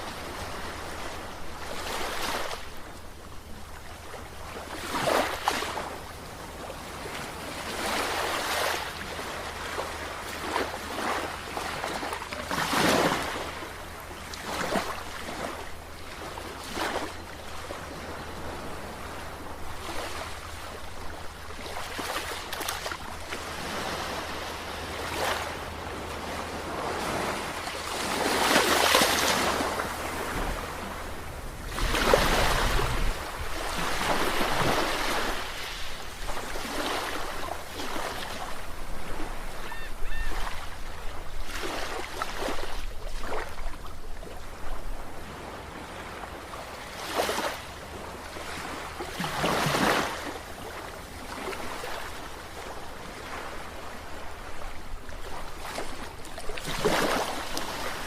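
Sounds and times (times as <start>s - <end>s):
sea waves breaking: 0.0s - 2.9s, 3.7s - 58.0s.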